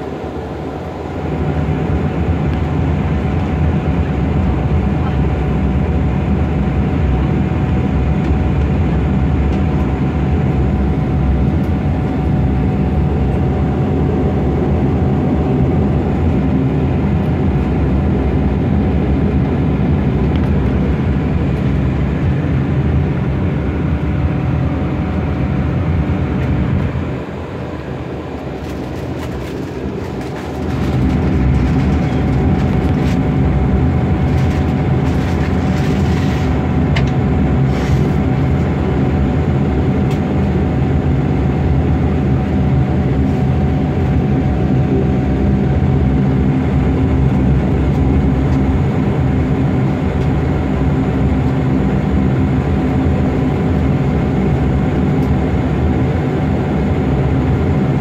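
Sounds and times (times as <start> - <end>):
airliner engine drone: 0.0 - 58.0
thin steady whine: 0.0 - 58.0.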